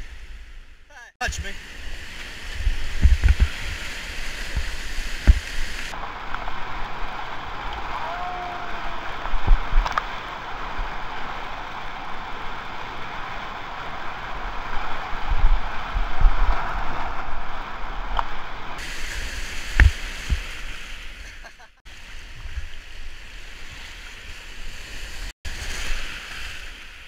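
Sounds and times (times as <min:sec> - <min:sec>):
rushing whitewater: 0:01.2 - 0:27.0.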